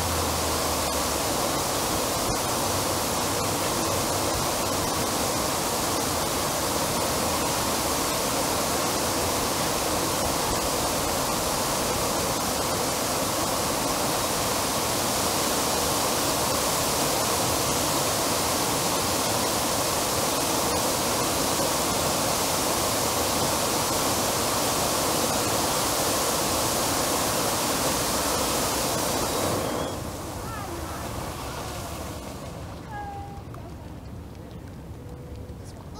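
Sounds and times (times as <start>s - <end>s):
fountain water splashing: 0.0s - 35.9s.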